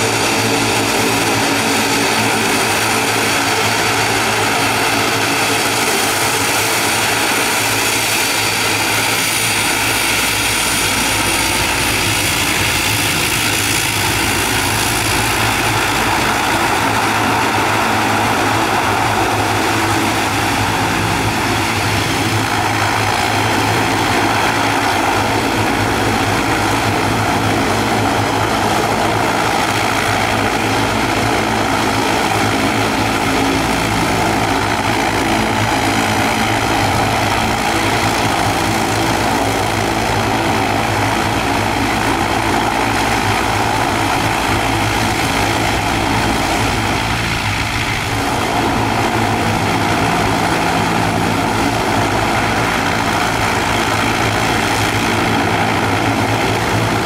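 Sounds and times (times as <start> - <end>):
turboprop propeller drone: 0.0 - 57.0.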